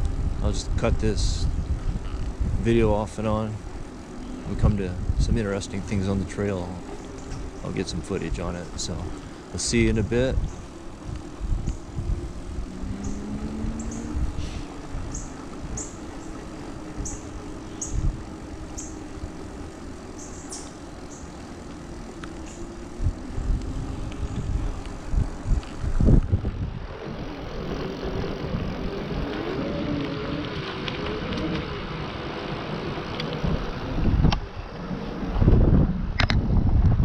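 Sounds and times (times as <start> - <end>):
e-bike motor hum: 0.0 - 37.0
wind noise: 0.0 - 37.0.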